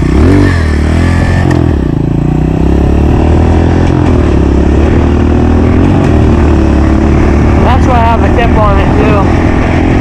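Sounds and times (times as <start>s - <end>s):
motorbike engine running: 0.0s - 10.0s.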